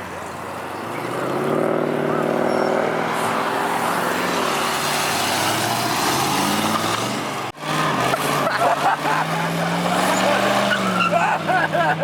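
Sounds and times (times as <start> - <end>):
car engine revving: 0.4 - 12.0.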